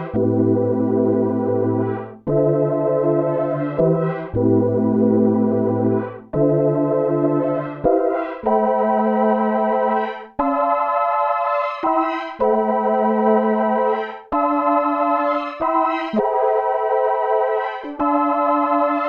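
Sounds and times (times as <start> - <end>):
synthesizer string chords: 0.0 - 19.0.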